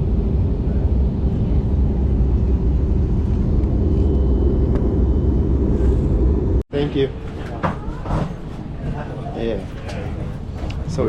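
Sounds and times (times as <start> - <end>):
jet cabin rumble: 0.0 - 11.0.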